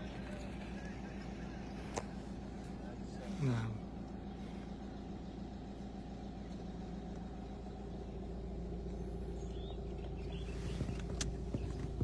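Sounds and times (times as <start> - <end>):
car engine drone from cabin: 0.0 - 12.0.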